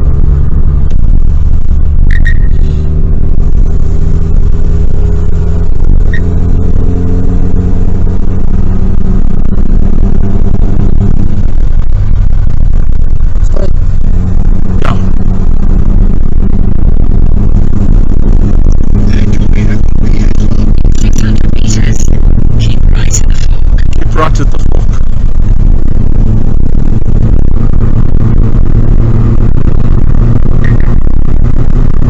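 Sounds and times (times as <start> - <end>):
car engine: 0.0 - 32.0
road noise inside vehicle: 0.0 - 32.0.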